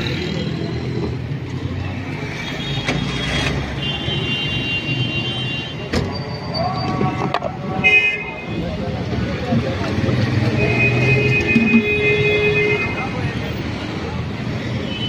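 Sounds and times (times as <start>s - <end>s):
traffic engines rumbling: 0.0s - 15.0s.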